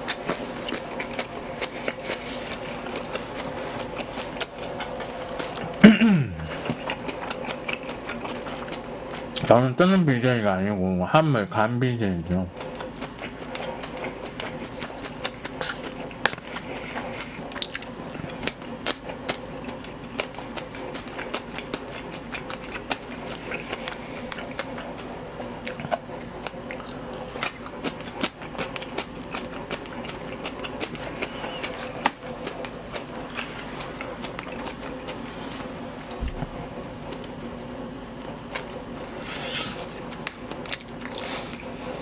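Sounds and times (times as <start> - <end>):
person chewing wetly: 0.0 - 9.5, 12.5 - 42.0
steady low hum: 0.0 - 42.0.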